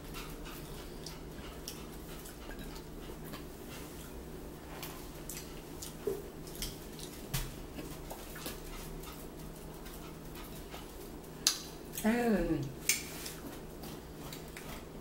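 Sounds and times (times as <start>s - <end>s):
small eating clicks: 0.0s - 4.2s, 4.8s - 15.0s
steady low hum: 0.0s - 15.0s.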